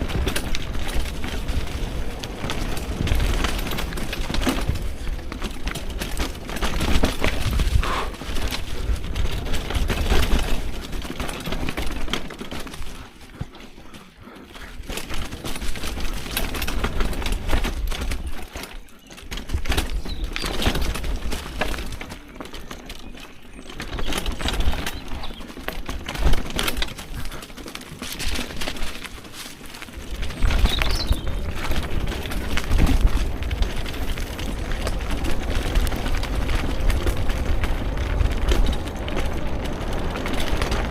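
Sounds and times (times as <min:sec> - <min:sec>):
wind buffeting microphone: 0:00.0 - 0:13.6, 0:19.3 - 0:27.6, 0:28.2 - 0:40.9
bike rattling over bumps: 0:00.0 - 0:40.9
tyres rolling over dirt: 0:00.0 - 0:40.9.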